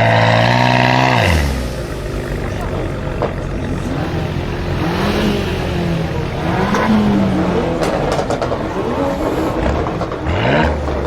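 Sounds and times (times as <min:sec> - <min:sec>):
car engine revving: 0:00.0 - 0:11.0
sharp exhaust cracks: 0:00.0 - 0:11.0.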